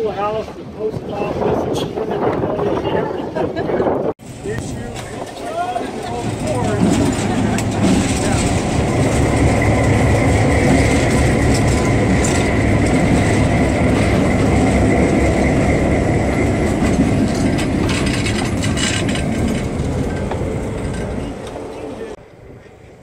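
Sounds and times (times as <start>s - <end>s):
diesel locomotive engine rumble: 0.0s - 23.0s.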